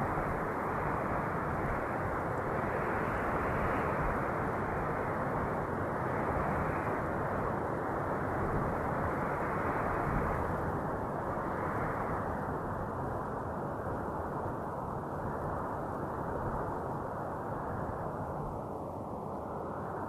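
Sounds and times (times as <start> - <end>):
rushing wind: 0.0 - 20.0.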